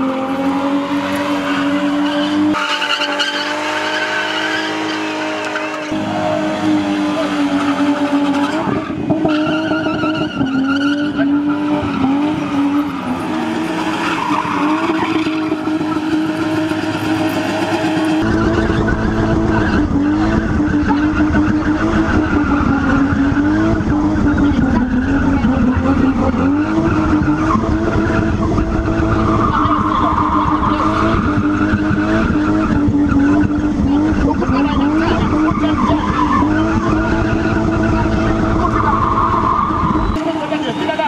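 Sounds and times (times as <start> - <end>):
car engines revving high: 0.0 - 41.0.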